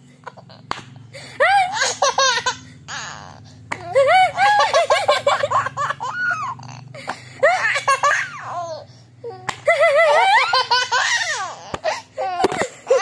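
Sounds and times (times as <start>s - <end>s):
toddler laughing: 1.4s - 8.8s, 9.4s - 13.0s.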